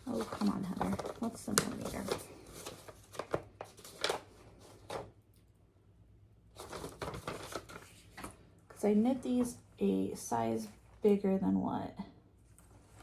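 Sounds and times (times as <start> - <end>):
soft rustling and crinkles: 0.0 - 5.2, 6.6 - 11.2, 12.4 - 13.0.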